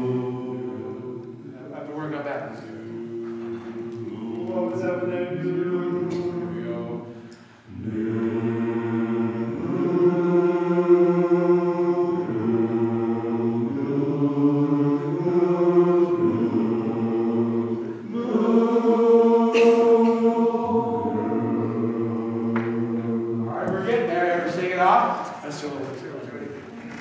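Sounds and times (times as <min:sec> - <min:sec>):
men's chorus singing sustained chords: 0:00.0 - 0:26.3.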